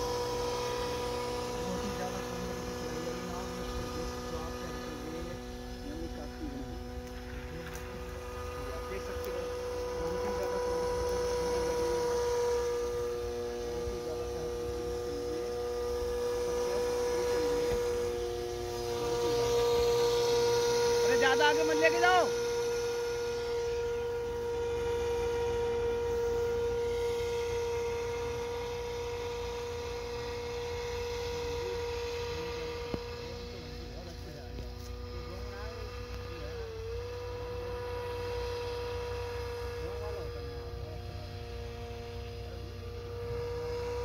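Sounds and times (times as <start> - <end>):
model airboat motor whine: 0.0 - 44.0.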